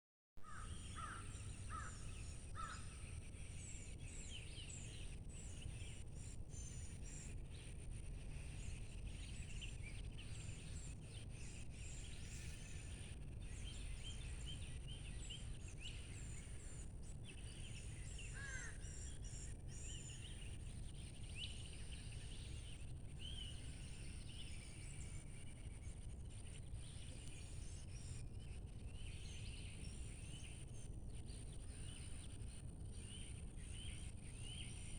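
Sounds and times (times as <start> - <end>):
small birds chirping and trilling: 0.4 - 34.9.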